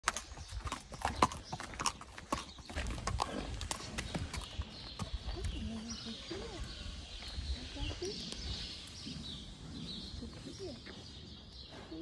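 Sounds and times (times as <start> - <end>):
horse hooves on pavement: 0.0 - 12.0.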